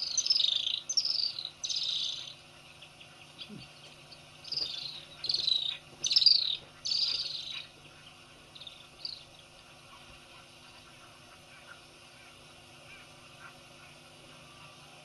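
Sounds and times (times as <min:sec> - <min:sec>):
swifts trilling: 0:00.0 - 0:15.0.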